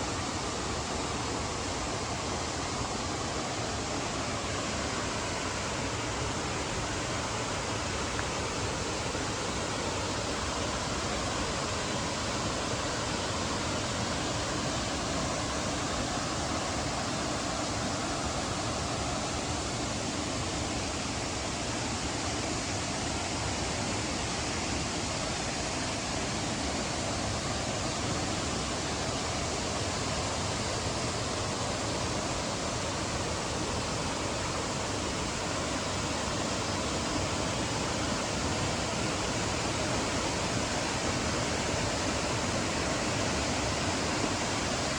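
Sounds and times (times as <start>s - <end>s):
waterfall rushing: 1.0s - 44.9s.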